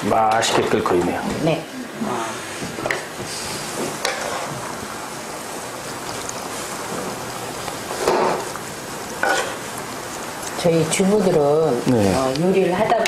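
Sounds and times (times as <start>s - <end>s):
meat sizzling in a frying pan: 2.2s - 13.0s.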